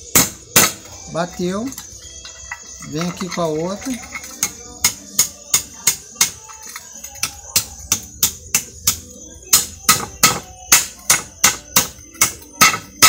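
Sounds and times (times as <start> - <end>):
hammer striking metal: 0.1 - 0.9, 1.6 - 13.0.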